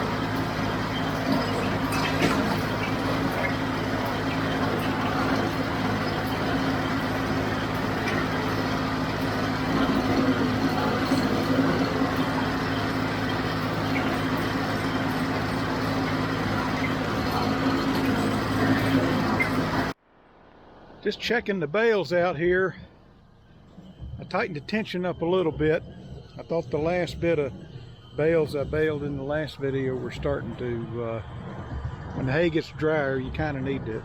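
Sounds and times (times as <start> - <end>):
tractor diesel engine running: 0.0 - 20.0, 21.1 - 34.0.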